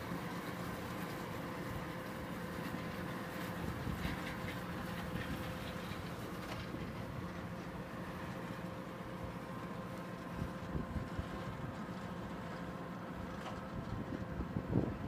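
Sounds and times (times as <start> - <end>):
heavy machinery engine drone: 0.0 - 15.0.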